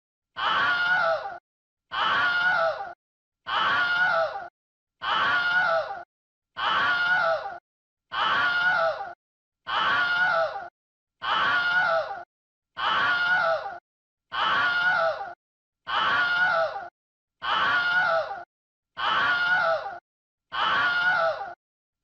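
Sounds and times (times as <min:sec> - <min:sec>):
person screaming: 0:00.4 - 0:06.0, 0:06.6 - 0:12.2, 0:12.8 - 0:21.6.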